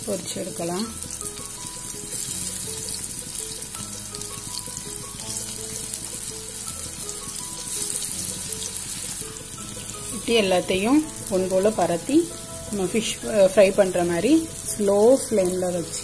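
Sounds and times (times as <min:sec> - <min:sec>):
food sizzling in hot oil: 0:00.0 - 0:16.0
simple background melody: 0:00.0 - 0:16.0.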